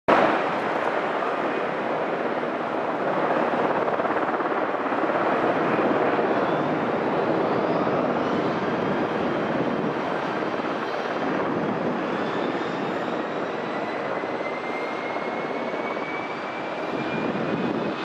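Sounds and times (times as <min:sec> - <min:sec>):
jet engines roaring at takeoff: 0:00.1 - 0:18.0.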